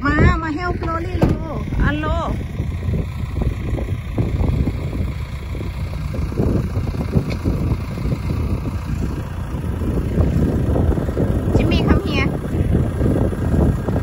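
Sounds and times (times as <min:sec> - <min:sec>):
tractor diesel engine running: 0:00.0 - 0:14.0
wind on microphone: 0:00.0 - 0:14.0.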